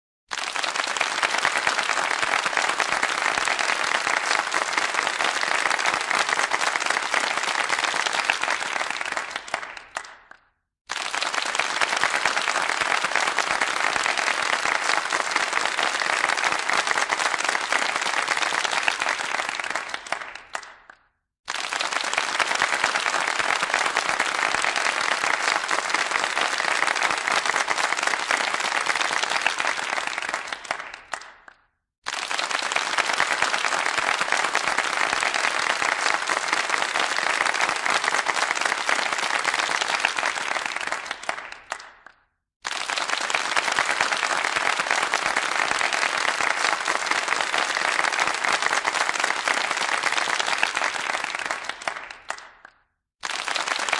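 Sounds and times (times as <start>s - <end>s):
audience applauding: 0.3s - 53.9s.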